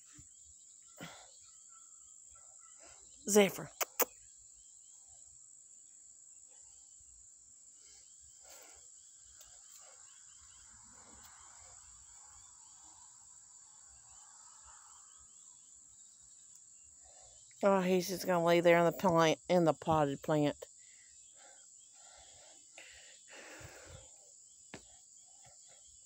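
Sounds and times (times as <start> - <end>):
high-pitched insect chorus: 0.0 - 18.5, 20.6 - 26.0.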